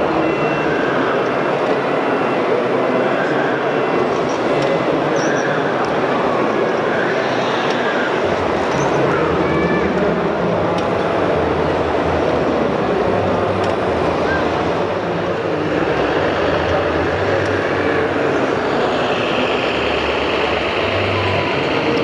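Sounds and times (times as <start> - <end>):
crowd chatter: 0.0 - 22.0
model trucks running: 0.0 - 22.0.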